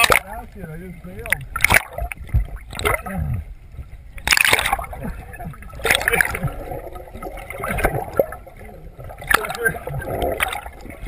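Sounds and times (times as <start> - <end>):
water sloshing and gurgling: 0.0 - 11.0.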